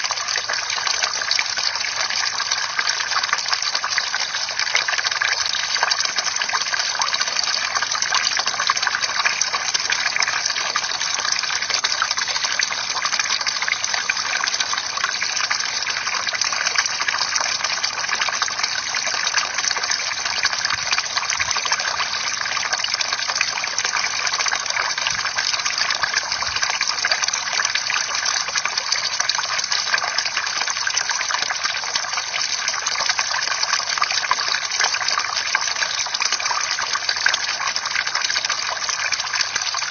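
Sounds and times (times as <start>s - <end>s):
water fountain splashing: 0.0s - 39.9s
water trickling and dripping: 0.0s - 39.9s.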